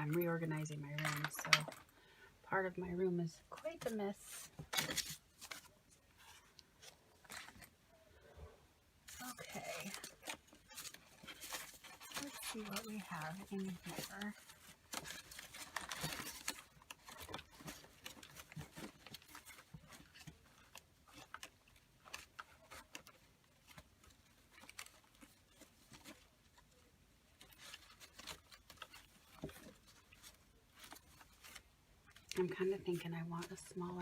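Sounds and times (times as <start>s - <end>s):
paper rustling: 3.5s - 7.8s, 9.1s - 34.0s.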